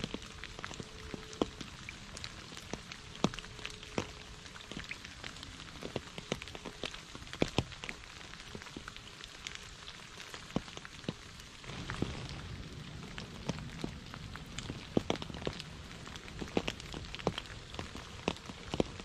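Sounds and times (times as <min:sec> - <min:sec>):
rain hissing: 0:00.0 - 0:19.0
raindrops ticking close by: 0:00.0 - 0:19.0.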